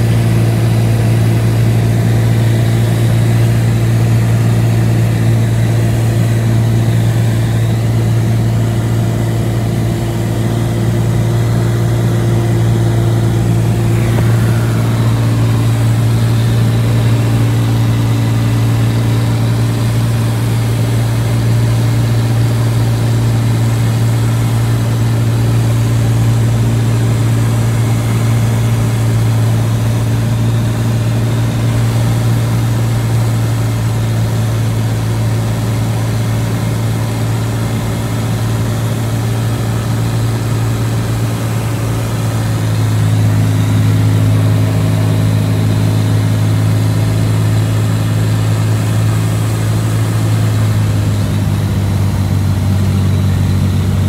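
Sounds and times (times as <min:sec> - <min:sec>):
propeller plane engine in cabin: 0:00.0 - 0:54.0.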